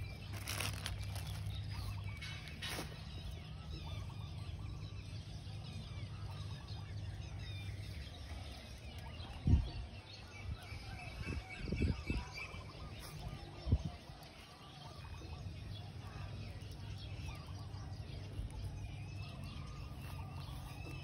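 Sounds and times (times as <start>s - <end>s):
birds calling faintly: 0.0s - 21.0s.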